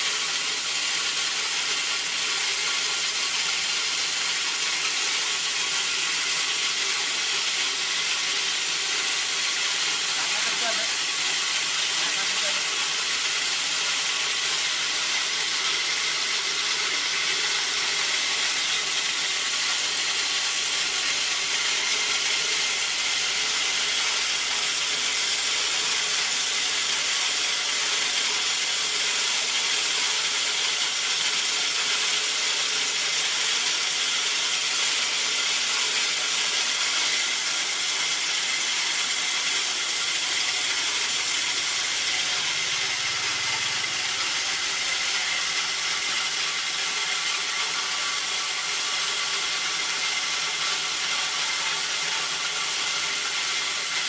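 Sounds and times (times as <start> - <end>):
corn mill grinding: 0.0 - 54.0.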